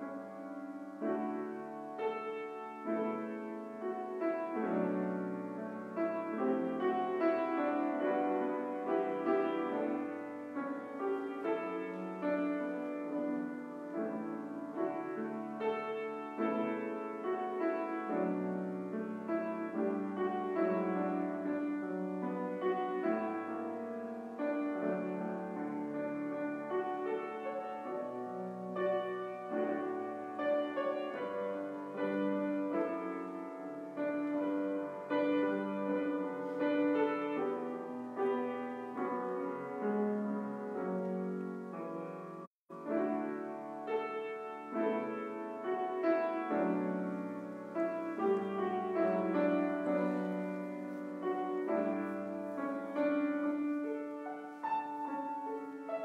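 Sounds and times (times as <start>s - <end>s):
slow piano music: 0.0s - 56.0s.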